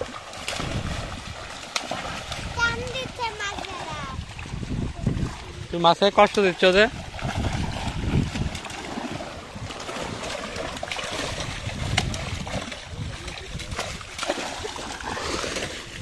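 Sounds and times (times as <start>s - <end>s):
churned water sloshing: 0.0s - 16.0s
fish thrashing and splashing: 0.0s - 16.0s.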